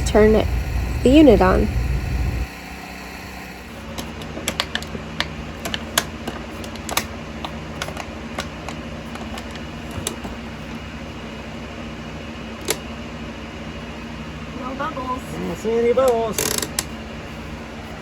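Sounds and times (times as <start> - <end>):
generator humming: 0.0 - 18.0.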